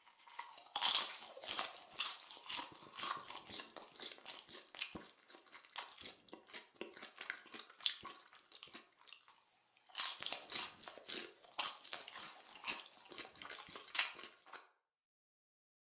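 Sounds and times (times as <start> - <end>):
person chewing popcorn: 0.0 - 14.8.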